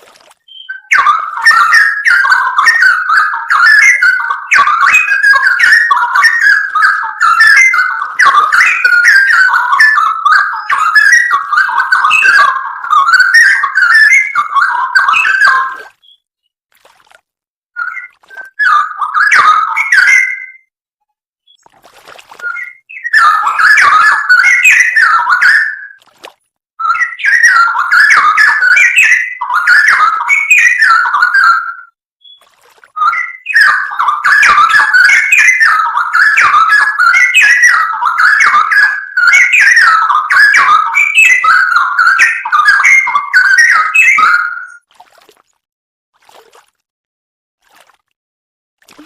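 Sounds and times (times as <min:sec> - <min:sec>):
bird singing whistled phrases: 0:00.5 - 0:16.2, 0:17.8 - 0:20.7, 0:22.4 - 0:26.0, 0:26.8 - 0:32.4, 0:33.0 - 0:44.9.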